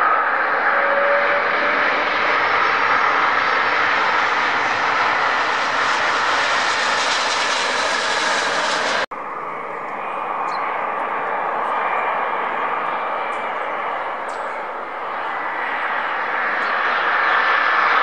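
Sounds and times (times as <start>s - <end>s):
distant jet hum: 0.0s - 18.0s
jet engines roaring: 0.0s - 18.0s.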